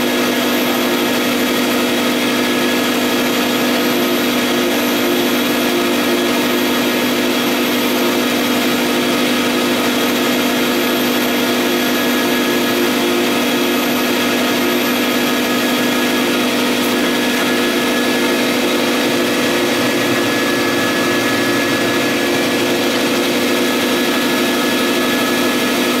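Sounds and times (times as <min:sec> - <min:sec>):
printer mechanical hum: 0:00.0 - 0:26.0.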